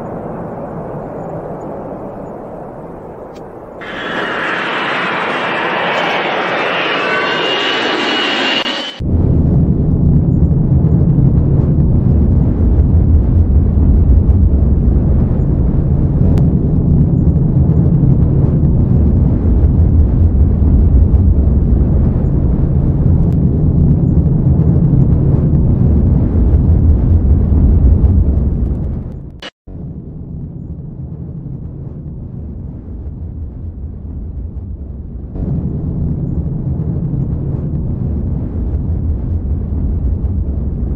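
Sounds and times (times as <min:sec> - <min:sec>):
airliner engine and airflow rumble: 0:00.0 - 0:40.9.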